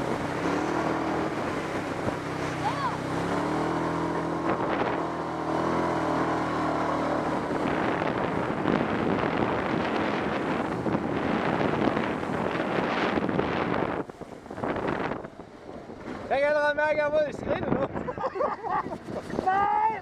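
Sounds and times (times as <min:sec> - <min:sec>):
atv engine running: 0:00.0 - 0:16.3
water splashing: 0:00.0 - 0:16.5.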